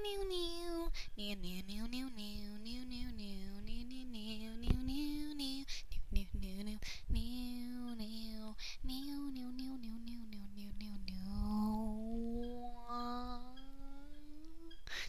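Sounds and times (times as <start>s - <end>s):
woman singing wordless melody: 0.0s - 15.0s.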